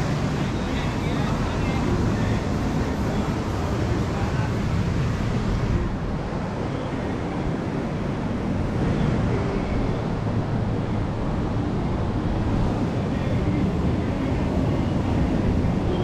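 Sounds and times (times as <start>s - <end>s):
ocean surf: 0.0s - 16.0s
wind rumbling on microphone: 0.0s - 16.0s.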